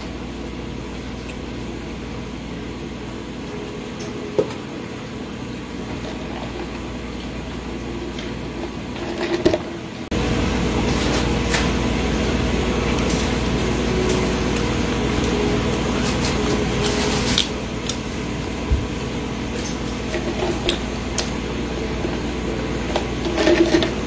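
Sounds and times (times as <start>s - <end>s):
mechanical hum of machinery: 0.0s - 24.0s.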